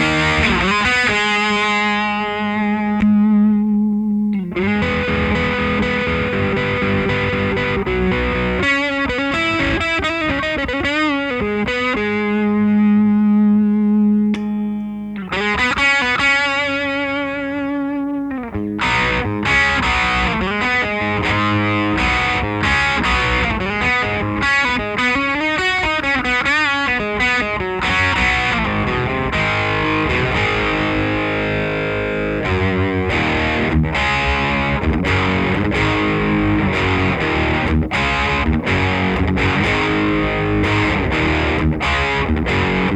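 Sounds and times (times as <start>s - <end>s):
distorted electric guitar lead: 0.0s - 42.9s.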